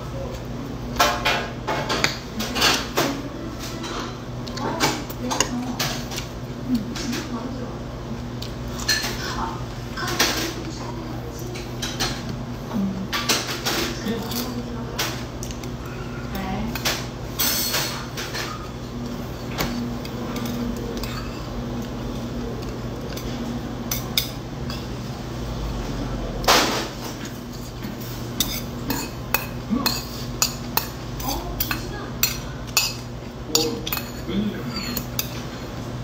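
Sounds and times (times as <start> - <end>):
steady low hum: 0.0 - 36.0
utensils clinking on metal bowl: 0.9 - 7.3, 8.7 - 10.7, 11.4 - 12.3, 13.1 - 25.0, 26.4 - 35.6.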